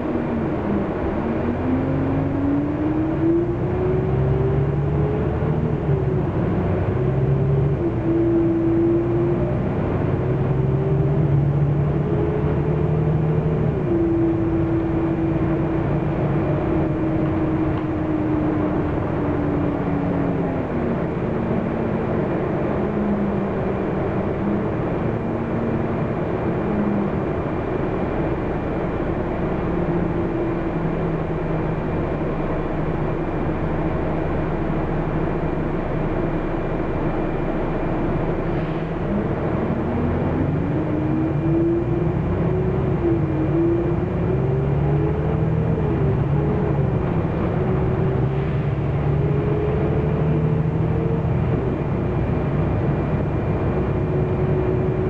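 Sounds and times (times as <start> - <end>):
bus diesel drivetrain whining: 0.0 - 55.0.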